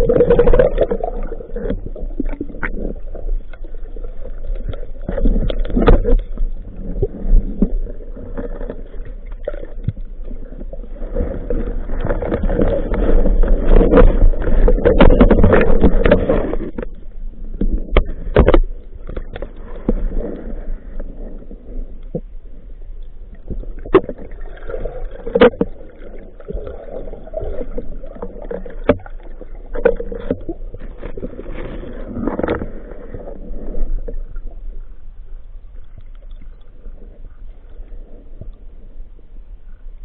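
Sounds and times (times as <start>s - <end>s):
muffled water sloshing and gurgling: 0.0s - 40.0s.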